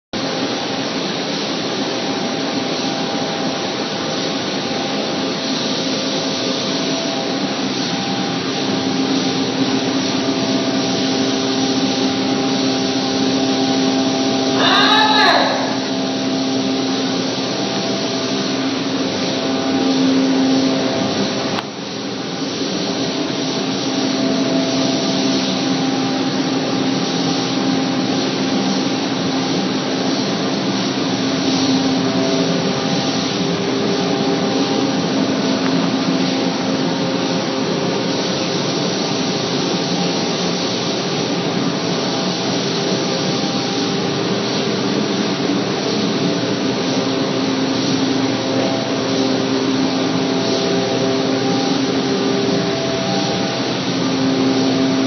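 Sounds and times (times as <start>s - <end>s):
paint sprayer running: 0.2s - 55.0s.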